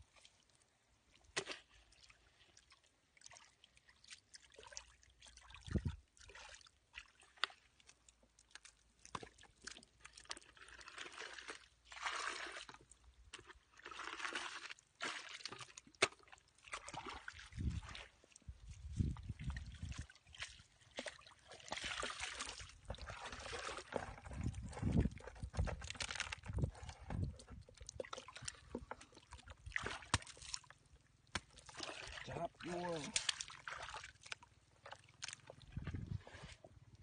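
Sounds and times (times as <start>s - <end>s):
squelches in wet mud: 0.0s - 37.0s
water pouring from a bucket: 1.3s - 36.7s.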